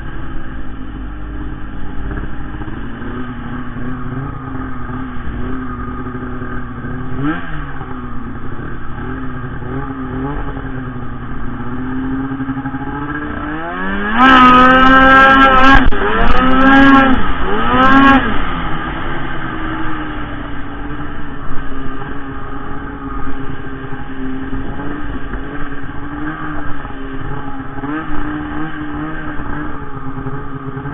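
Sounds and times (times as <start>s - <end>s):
snowmobile engine revving: 0.0s - 30.9s.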